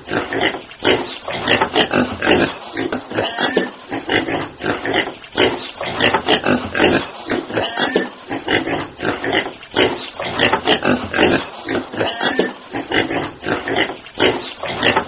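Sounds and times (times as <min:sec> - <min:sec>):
pigs grunting and oinking: 0:00.0 - 0:15.0.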